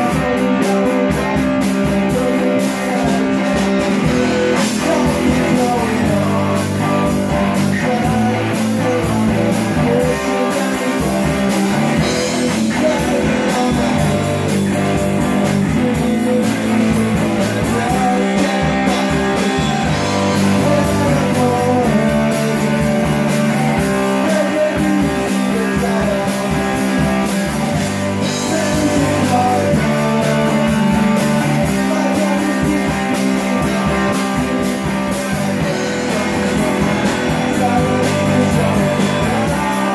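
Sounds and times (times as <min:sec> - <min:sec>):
drum kit: 0:00.0 - 0:39.9
electric bass: 0:00.0 - 0:39.9
electric guitar: 0:00.0 - 0:39.9
man singing: 0:00.0 - 0:39.9.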